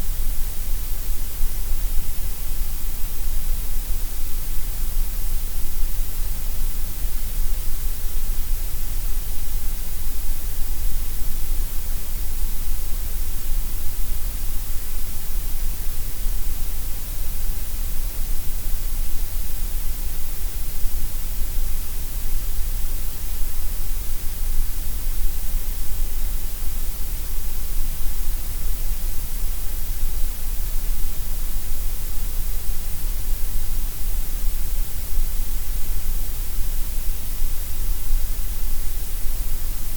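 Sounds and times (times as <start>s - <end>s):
steady gray noise hiss: 0.0s - 39.9s.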